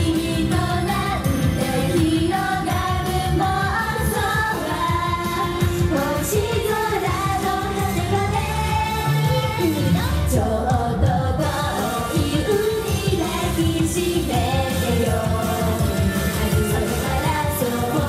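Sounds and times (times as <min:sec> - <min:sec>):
backing track with steady beat: 0:00.0 - 0:18.0
group singing pop song: 0:00.0 - 0:18.0.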